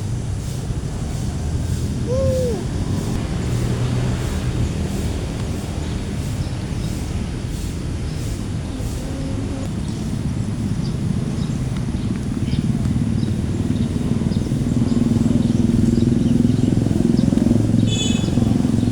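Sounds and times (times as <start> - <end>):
low engine rumble: 0.0 - 18.9.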